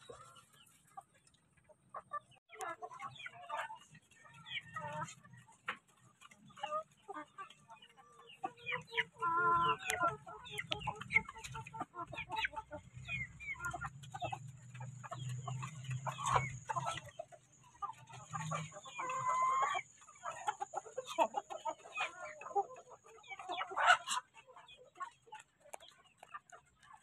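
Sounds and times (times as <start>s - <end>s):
chickens clucking and calling: 0.0s - 27.0s.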